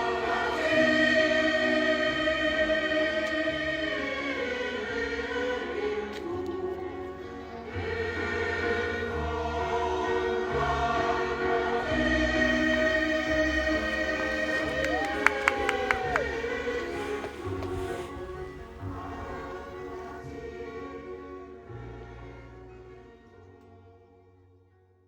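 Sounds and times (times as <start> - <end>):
choir singing over low bass: 0.0 - 24.8.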